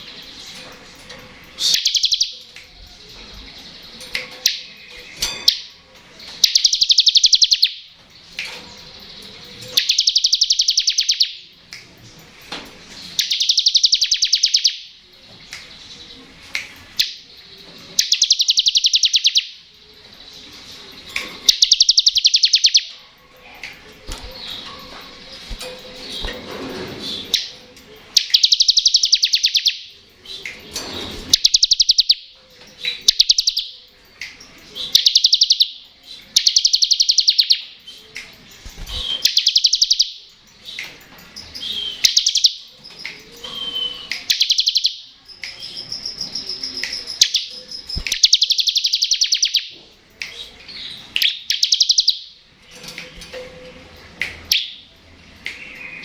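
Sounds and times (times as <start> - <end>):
bird singing rattling trills: 0.0 - 56.0
soft bird chirps: 0.0 - 56.0.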